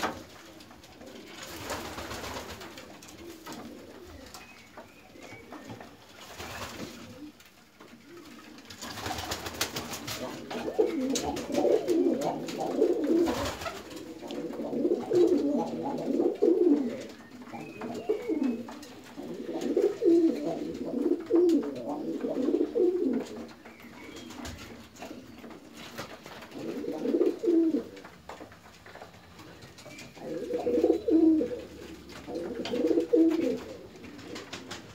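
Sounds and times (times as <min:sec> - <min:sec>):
pigeons cooing: 0:00.0 - 0:28.2, 0:29.4 - 0:34.9.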